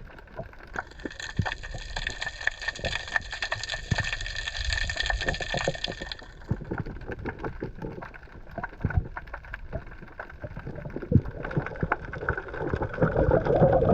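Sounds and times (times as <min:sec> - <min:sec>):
low underwater rumble: 0:00.0 - 0:13.9
underwater clicks and knocks: 0:00.0 - 0:13.9.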